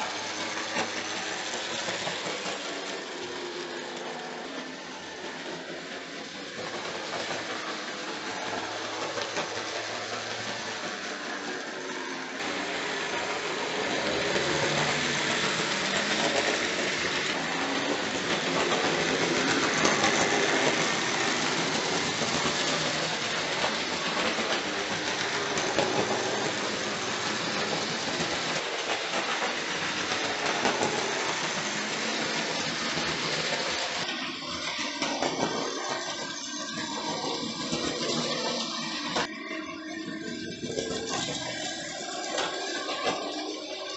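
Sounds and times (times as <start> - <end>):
model train wheels rattling on rails: 0.0 - 43.9
small motors running: 0.0 - 43.9.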